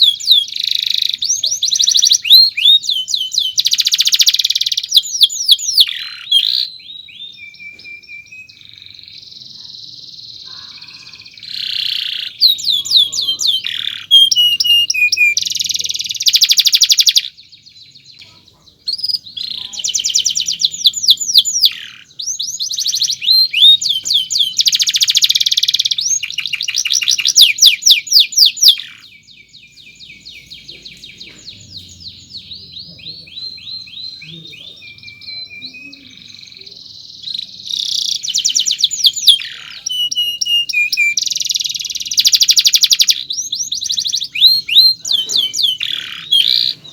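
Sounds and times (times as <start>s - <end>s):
canary singing chirps and trills: 0.0s - 46.9s.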